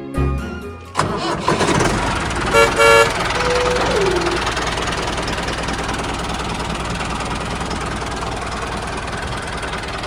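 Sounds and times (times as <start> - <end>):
tractor engine running: 0.8 - 10.0.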